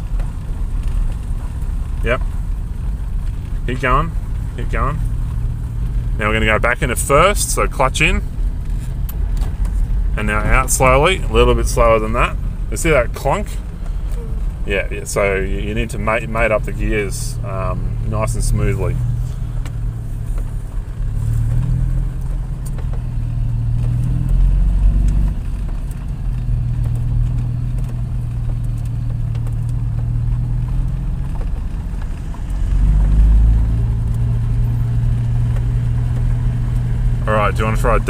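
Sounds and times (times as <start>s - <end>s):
car engine at low revs: 0.0s - 38.0s.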